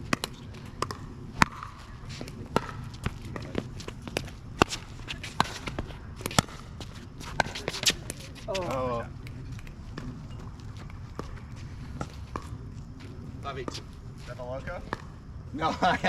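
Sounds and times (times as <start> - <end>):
footsteps on court: 0.1 - 15.2.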